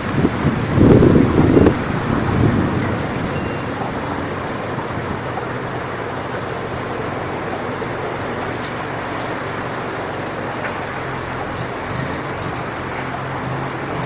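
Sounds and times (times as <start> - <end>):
strong wind through palm trees: 0.0 - 14.0.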